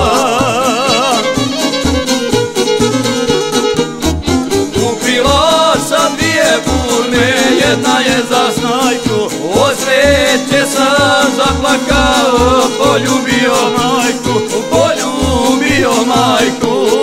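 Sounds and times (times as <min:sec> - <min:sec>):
plucked string accompaniment: 0:00.0 - 0:17.0
violin melody: 0:00.0 - 0:17.0.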